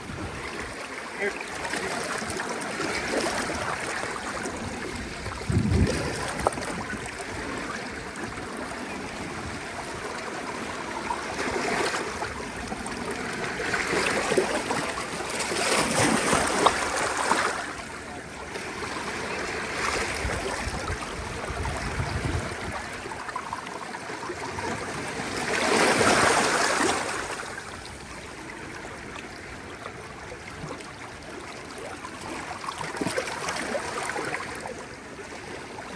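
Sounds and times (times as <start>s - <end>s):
ocean waves washing onto shore: 0.0s - 35.9s.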